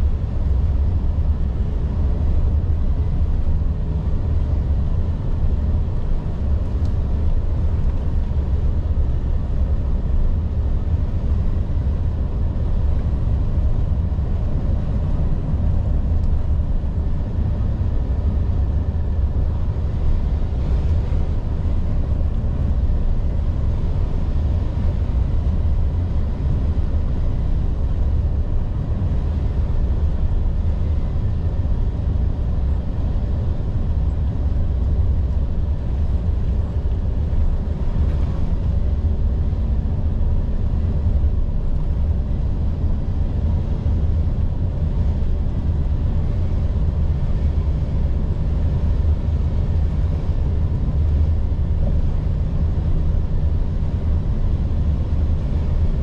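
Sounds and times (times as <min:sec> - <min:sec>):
road noise: 0:00.0 - 0:56.0
truck diesel engine rumble: 0:00.0 - 0:56.0.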